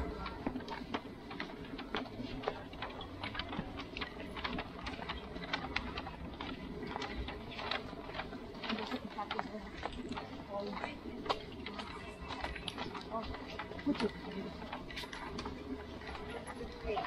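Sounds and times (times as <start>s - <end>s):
background hubbub: 0.0s - 17.0s
footsteps on hard path: 0.0s - 17.0s.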